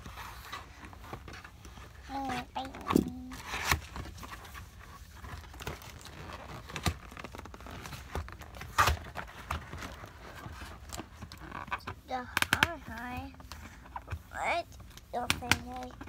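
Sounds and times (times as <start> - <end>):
cardboard and tape crinkling: 0.0 - 16.0.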